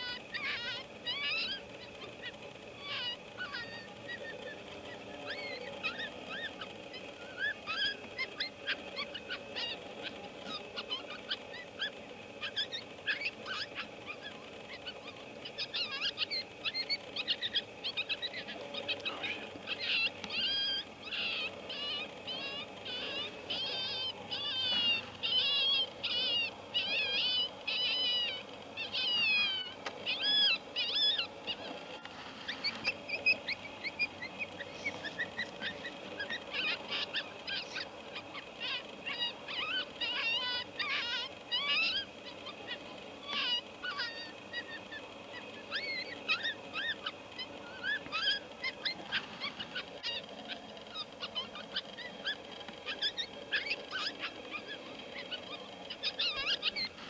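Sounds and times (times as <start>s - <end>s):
coyotes howling: 0.0s - 57.0s
coyotes yipping: 0.0s - 57.0s.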